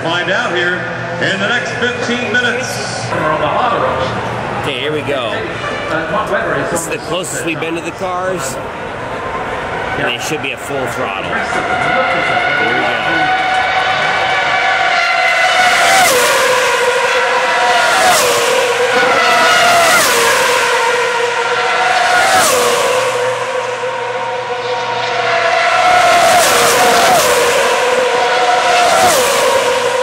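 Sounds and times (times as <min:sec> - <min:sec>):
racing cars passing at full throttle: 0:00.0 - 0:30.0.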